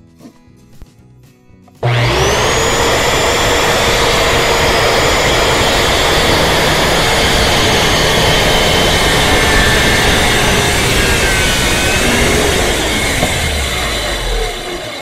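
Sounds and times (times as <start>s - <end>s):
circular saw cutting wood: 1.8s - 15.0s.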